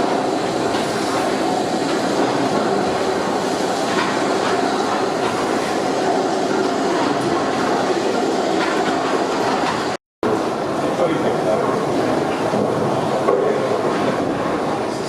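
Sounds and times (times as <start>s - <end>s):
steam engine rumble and clatter: 0.0s - 15.0s.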